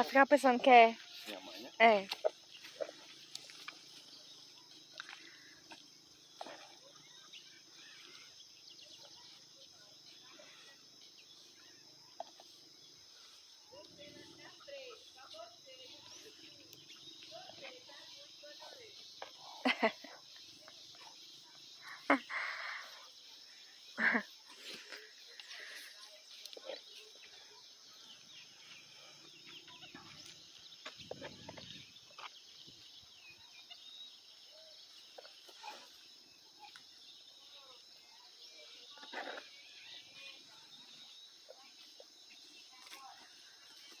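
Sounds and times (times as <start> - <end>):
insect drone: 0.0 - 44.0.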